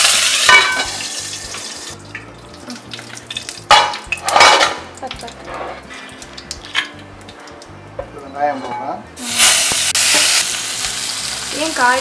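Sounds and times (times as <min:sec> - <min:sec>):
leaves sizzling in hot oil: 0:00.0 - 0:07.3, 0:09.2 - 0:12.0.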